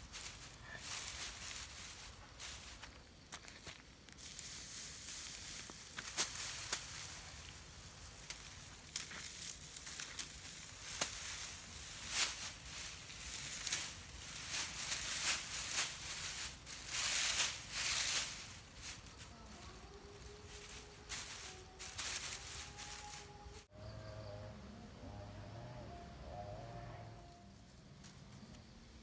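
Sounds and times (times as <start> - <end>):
dry material rustling and crackling: 0.0 - 23.7.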